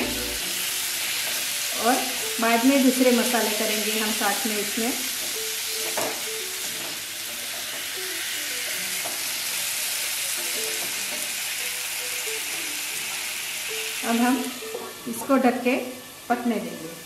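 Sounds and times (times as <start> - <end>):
potato slices sizzling in oil: 0.0 - 17.0.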